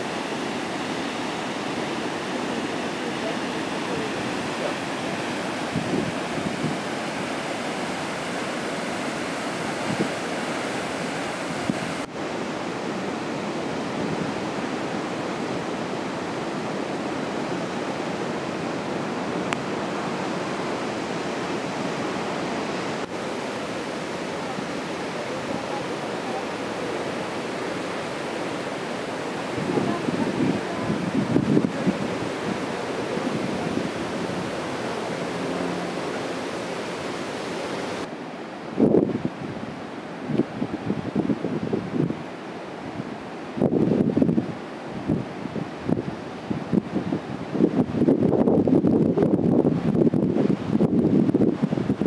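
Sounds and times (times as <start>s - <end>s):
waterfall rushing: 0.0s - 48.4s.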